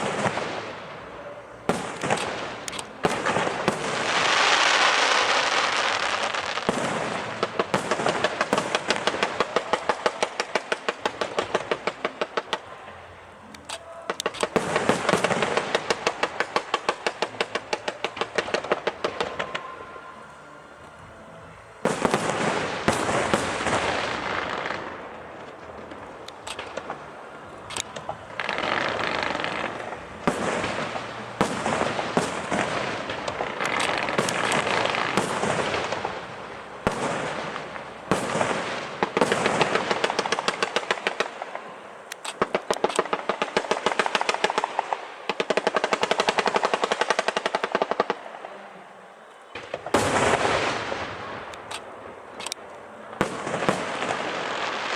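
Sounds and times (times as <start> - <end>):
fireworks bursting with crackle: 0.0 - 54.9
rapid crackling reports: 0.0 - 54.9.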